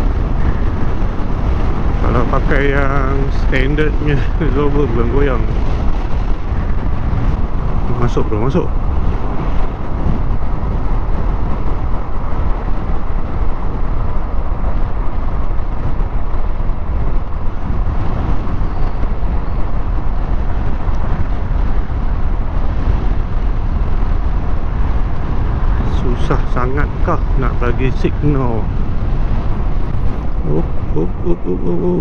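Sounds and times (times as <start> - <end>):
wind and road noise: 0.0 - 32.0.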